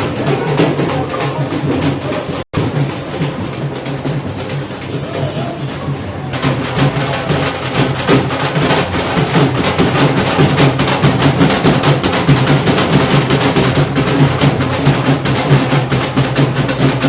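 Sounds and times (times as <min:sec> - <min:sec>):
music with fast dense drumming: 0:00.0 - 0:17.0.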